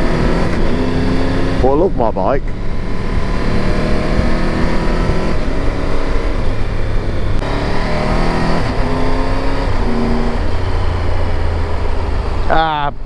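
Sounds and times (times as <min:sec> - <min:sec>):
motorcycle engine accelerating: 0:00.0 - 0:13.0
rush of wind and road: 0:00.0 - 0:13.0.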